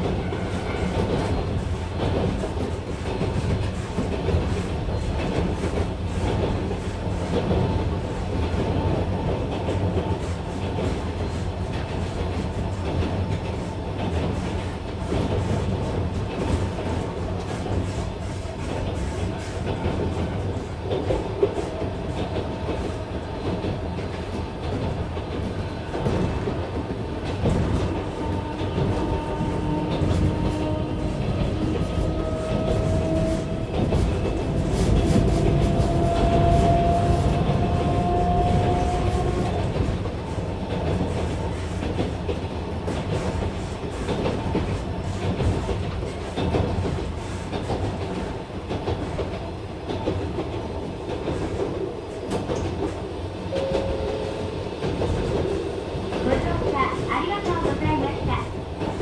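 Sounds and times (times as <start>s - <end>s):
train rumbling: 0.0s - 59.0s
wheels clacking on rail joints: 0.0s - 59.0s.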